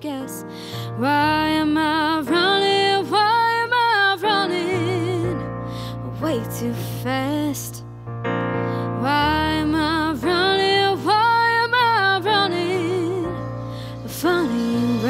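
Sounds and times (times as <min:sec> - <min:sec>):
woman singing a slow ballad: 0:00.0 - 0:07.9, 0:08.7 - 0:15.0.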